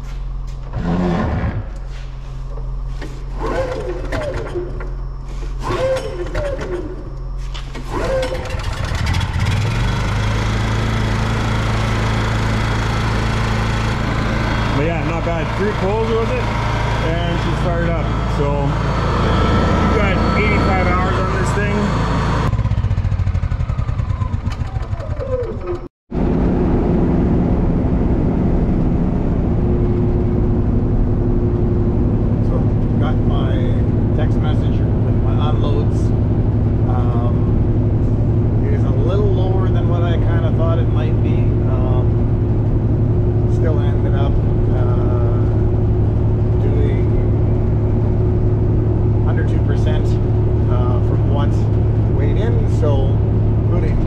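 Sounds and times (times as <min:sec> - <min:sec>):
generator engine running: 0:00.0 - 0:54.0
vehicle driving drone: 0:00.0 - 0:54.0.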